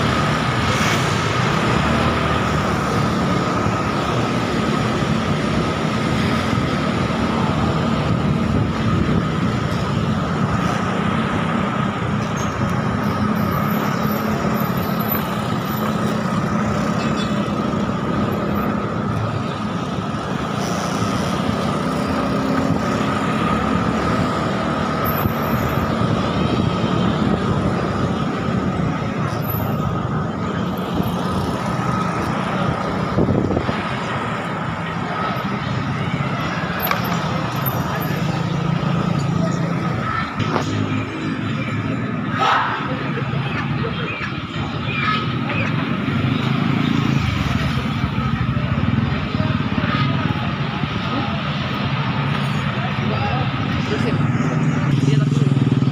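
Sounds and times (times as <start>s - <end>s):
other motorcycles and cars: 0.0s - 55.9s.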